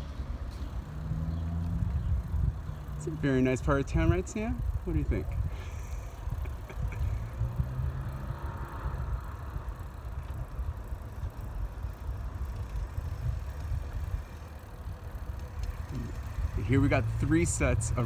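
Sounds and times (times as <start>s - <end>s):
faint road noise: 0.0s - 18.0s
wind buffeting microphone: 0.0s - 18.0s.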